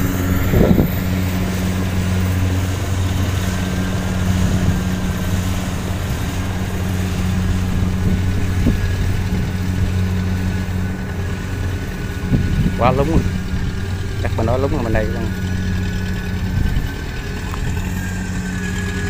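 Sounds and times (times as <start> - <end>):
farm machine engine droning: 0.0 - 19.0.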